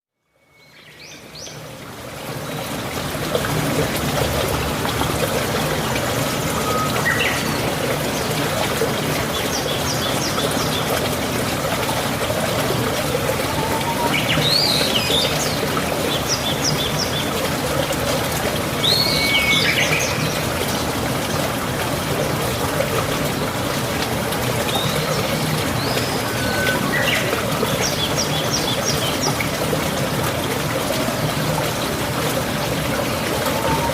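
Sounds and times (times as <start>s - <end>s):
stream trickling: 0.2s - 33.9s.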